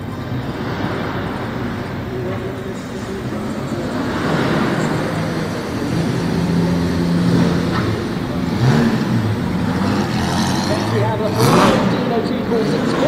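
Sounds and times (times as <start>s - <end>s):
racing car engine driving past: 0.0s - 13.0s.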